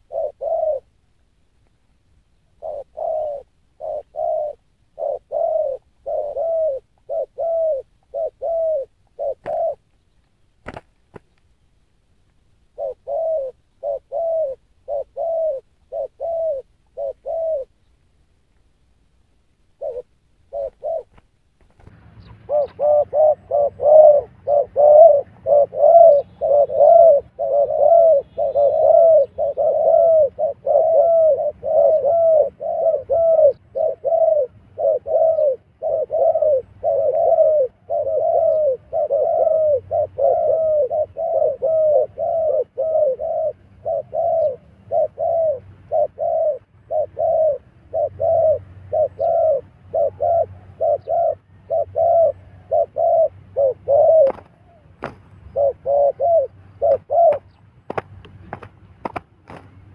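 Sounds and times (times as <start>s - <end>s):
doves cooing: 0.0s - 1.0s, 2.4s - 11.4s, 12.6s - 18.0s, 19.7s - 59.9s.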